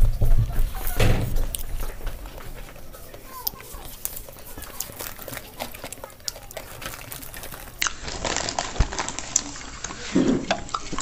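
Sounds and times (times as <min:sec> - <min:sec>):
chewing: 0:00.0 - 0:11.0
gloved hands clicking and crinkling: 0:00.0 - 0:11.0.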